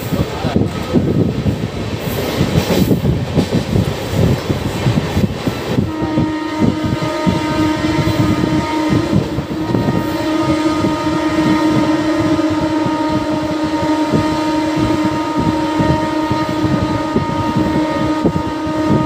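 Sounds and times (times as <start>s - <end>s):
train hum: 0.0s - 19.0s
train wheels rumbling and clattering: 0.0s - 19.0s.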